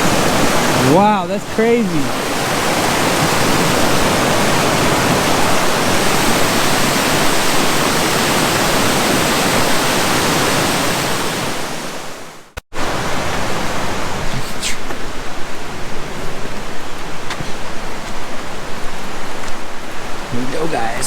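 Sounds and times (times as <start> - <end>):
creek rushing over rocks: 0.0 - 21.0.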